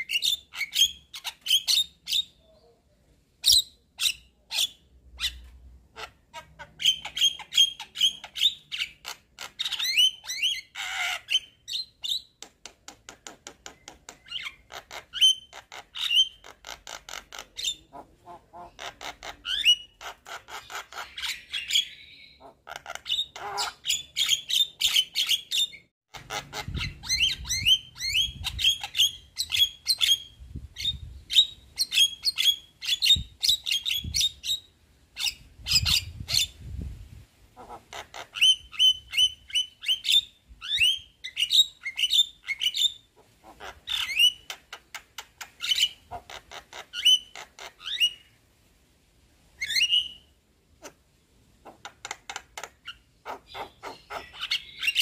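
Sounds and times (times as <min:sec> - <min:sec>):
bird chattering song: 0:00.0 - 0:36.6, 0:37.6 - 0:48.3, 0:51.6 - 0:55.0.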